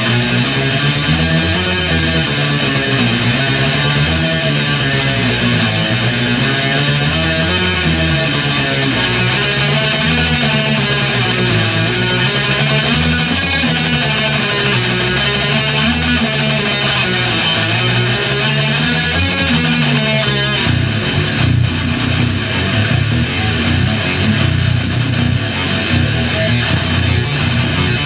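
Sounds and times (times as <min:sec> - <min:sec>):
heavy metal guitar and bass riff: 0:00.0 - 0:28.0.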